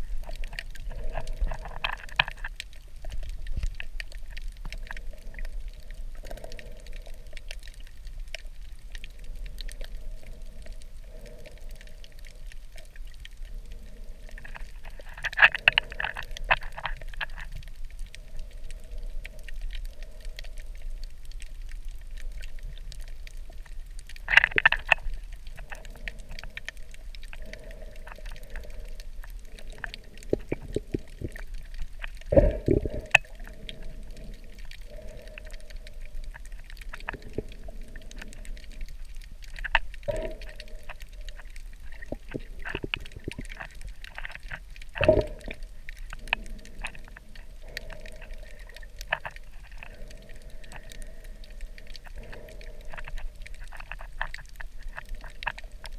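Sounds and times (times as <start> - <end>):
muffled underwater wash: 0.0 - 55.9
sharp underwater clicks: 0.0 - 55.9.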